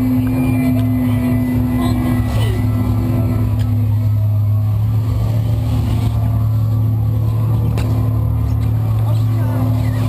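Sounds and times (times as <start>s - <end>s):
loud low-pitched hum: 0.0s - 10.0s.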